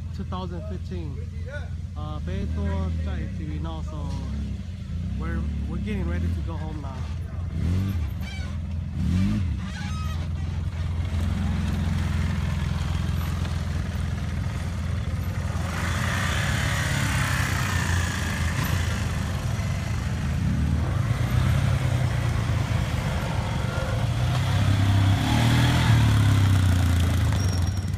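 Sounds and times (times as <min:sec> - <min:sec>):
low engine rumble: 0:00.0 - 0:27.9.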